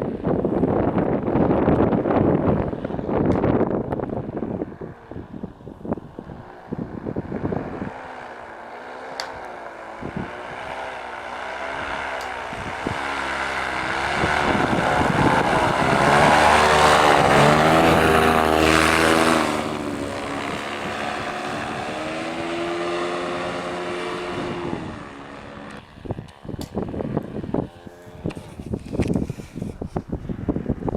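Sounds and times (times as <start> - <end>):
paramotor engine flying past: 2.0 - 30.9.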